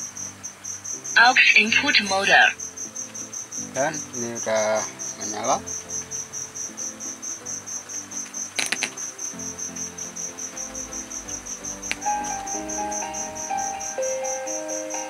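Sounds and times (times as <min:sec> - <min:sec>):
cricket chirping: 0:00.0 - 0:15.0
music playing: 0:00.0 - 0:15.0.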